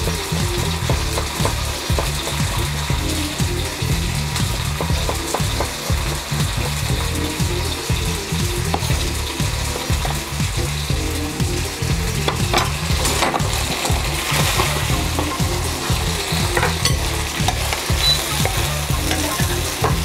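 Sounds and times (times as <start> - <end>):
steak sizzling in a wok: 0.0 - 20.0.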